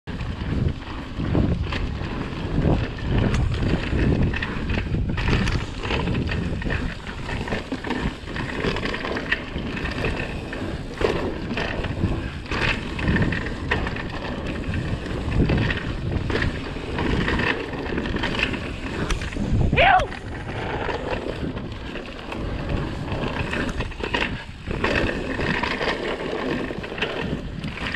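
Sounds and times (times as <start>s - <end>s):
bike clattering over bumps: 0.1s - 27.9s
tyres rumbling over dirt: 0.1s - 27.9s
wind buffeting microphone: 0.1s - 27.9s.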